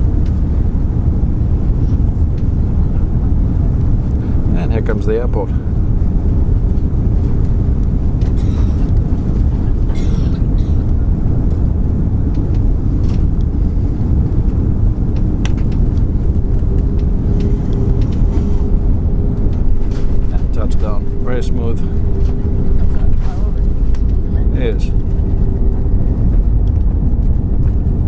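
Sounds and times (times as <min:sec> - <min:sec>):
aircraft cabin engine rumble: 0:00.0 - 0:28.0
faint steady hum: 0:00.0 - 0:28.0.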